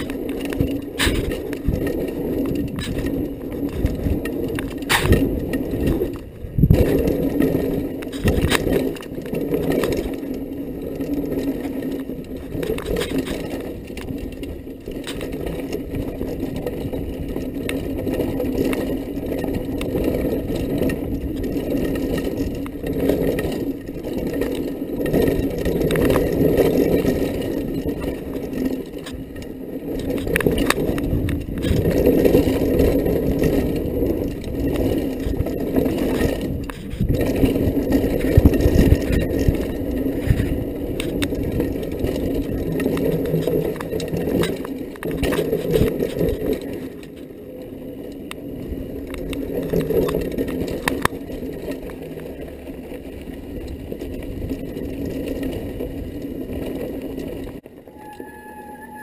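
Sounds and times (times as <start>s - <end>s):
bike knocking and rattling: 0.0s - 58.4s
bike tyres rumbling on dirt: 0.0s - 59.0s.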